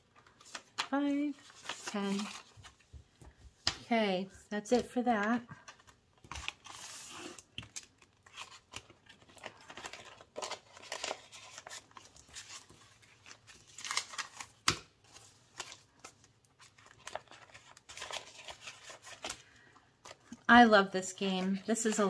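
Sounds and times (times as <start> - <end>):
paper rustling: 0.1 - 3.8, 5.5 - 20.4.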